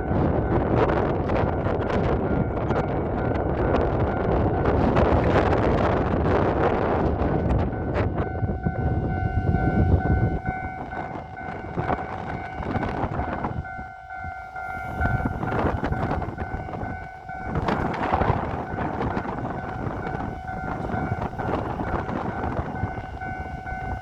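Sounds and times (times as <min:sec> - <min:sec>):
level crossing warning bell: 0:00.0 - 0:24.0
train rushing past: 0:00.0 - 0:24.0
wind buffeting microphone: 0:00.0 - 0:24.0.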